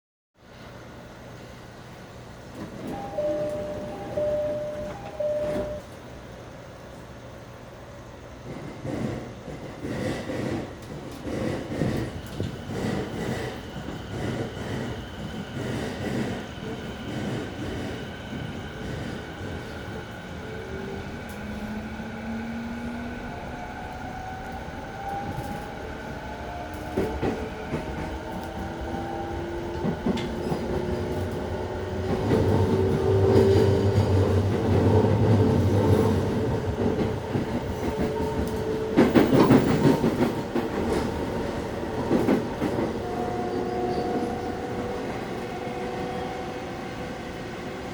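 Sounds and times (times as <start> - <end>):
train running rumble: 8.0 - 47.9.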